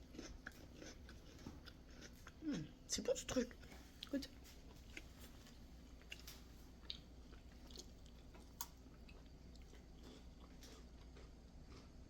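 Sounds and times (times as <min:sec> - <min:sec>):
faint chewing of crackers: 0:00.0 - 0:12.0.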